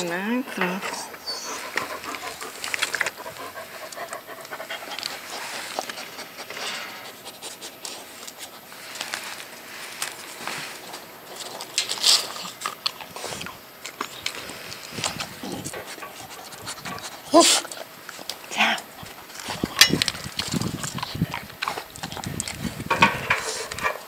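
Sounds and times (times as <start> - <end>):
dogs panting: 0.0 - 8.8, 10.8 - 24.0.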